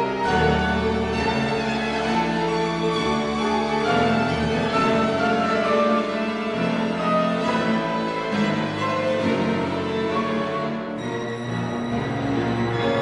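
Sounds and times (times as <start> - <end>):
piano and strings chamber music: 0.0 - 13.0.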